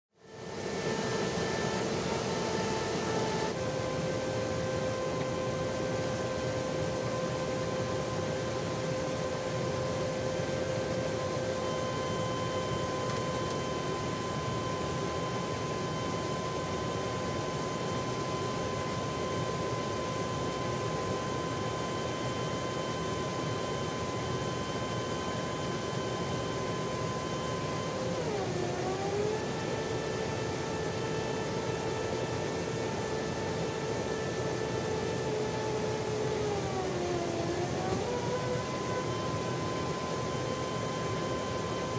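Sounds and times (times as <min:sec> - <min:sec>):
aircraft engine noise: 0:00.4 - 0:41.9
whining tones: 0:00.5 - 0:41.9.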